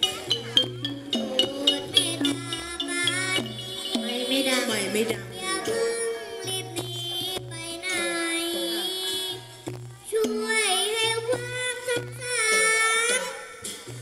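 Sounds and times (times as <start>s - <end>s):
backing music with bass pulse: 0.0s - 12.5s
girl singing into microphone: 0.0s - 14.0s.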